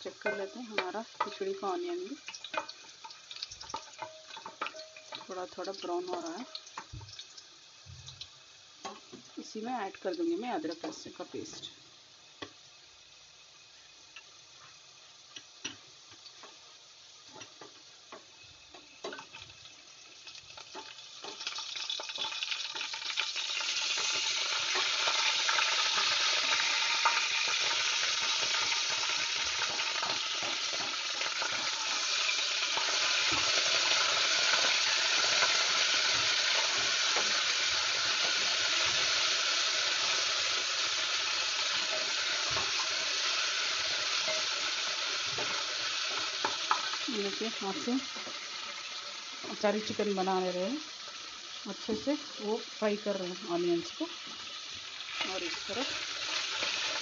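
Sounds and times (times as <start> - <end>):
frying sizzle: 0.0 - 57.0.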